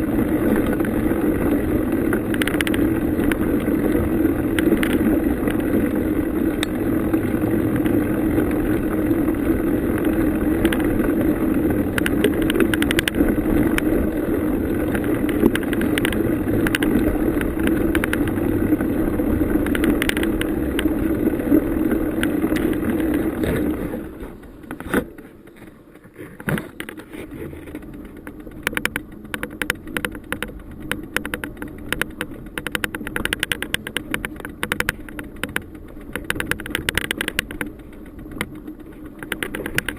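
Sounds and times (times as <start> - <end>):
bicycle tyres rumbling on trail: 0.0 - 39.9
bike rattling and clicking: 0.0 - 39.9.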